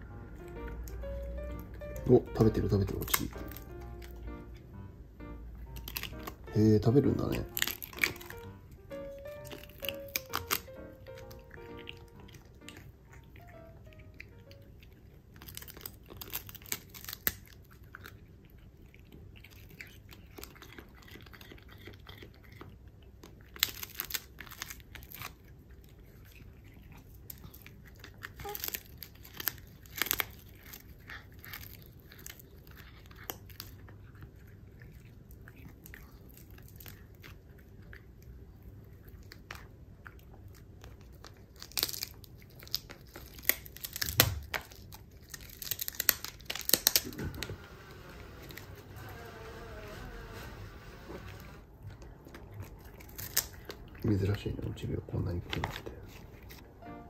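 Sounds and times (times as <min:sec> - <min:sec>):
cats crunching dried fish: 0:00.4 - 0:49.3, 0:50.1 - 0:56.8.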